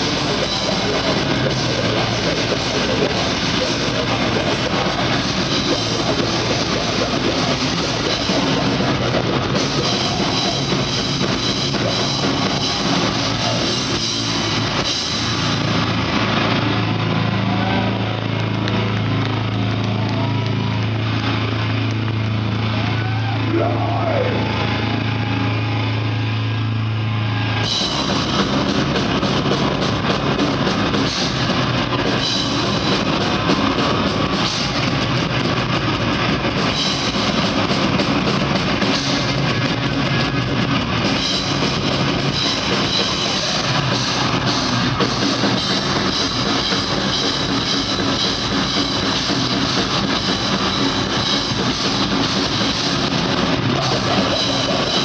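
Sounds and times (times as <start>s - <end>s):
grindcore band playing live: 0.0s - 55.0s.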